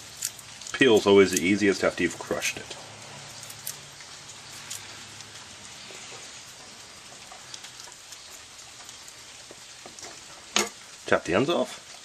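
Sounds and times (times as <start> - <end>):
garlic skin crackling: 0.0 - 12.0
steady hiss: 0.0 - 12.0.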